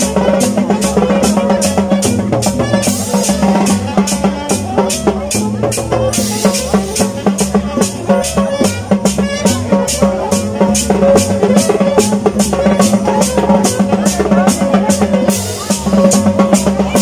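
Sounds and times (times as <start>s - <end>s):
drums playing dance beat: 0.0s - 17.0s
saxophone melody: 0.0s - 17.0s.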